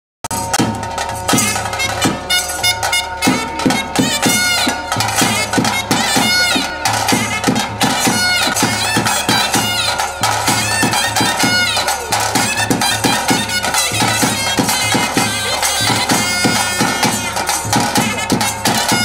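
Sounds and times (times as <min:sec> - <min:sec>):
regular drumbeat: 0:00.2 - 0:19.0
steady drone: 0:00.3 - 0:19.0
wind instrument wavering melody: 0:00.3 - 0:19.0.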